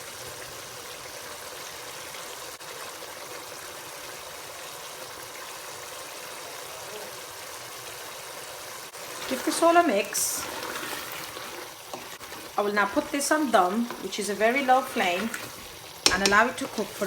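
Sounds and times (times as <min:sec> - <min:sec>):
curry sizzling in a pan: 0:00.0 - 0:17.0.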